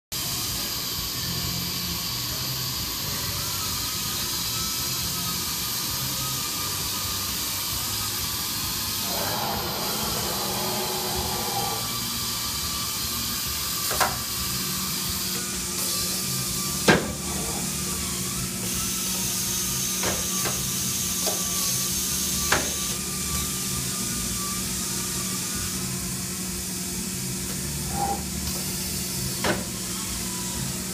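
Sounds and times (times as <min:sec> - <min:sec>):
cnc router whining and humming: 0:00.2 - 0:30.9.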